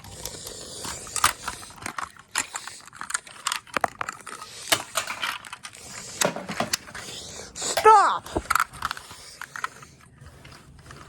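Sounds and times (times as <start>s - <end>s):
plastic toys clicking and clattering: 0.0s - 11.0s.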